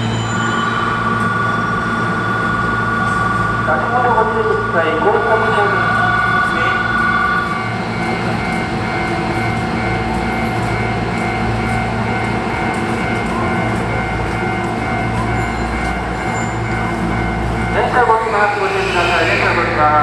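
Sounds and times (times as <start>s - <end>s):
electric train hum and rumble: 0.0s - 20.0s.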